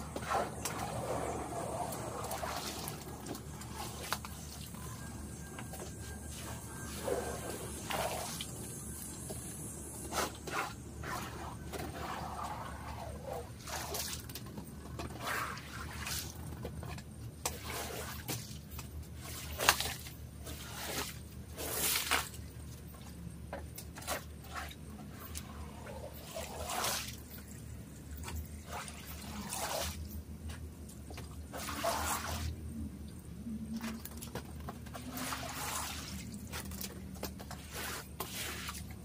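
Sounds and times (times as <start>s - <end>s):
water swishing through wet rug: 0.0s - 5.1s, 5.8s - 9.1s, 10.0s - 14.4s, 15.1s - 16.5s, 17.5s - 22.8s, 24.0s - 32.6s, 34.9s - 39.0s.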